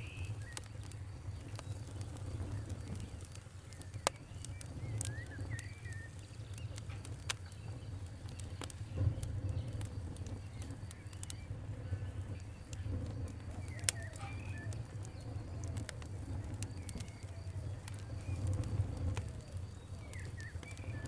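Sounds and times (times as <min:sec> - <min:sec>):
low rumble of flame: 0:00.0 - 0:21.0
wood fire crackling and popping: 0:00.0 - 0:21.0.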